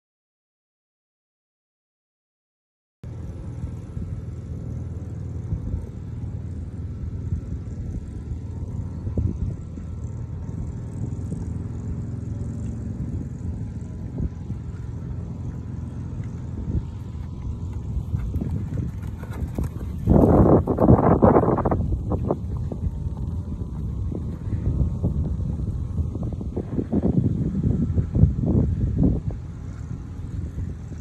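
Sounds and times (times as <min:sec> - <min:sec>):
wind buffeting microphone: 0:03.3 - 0:31.0.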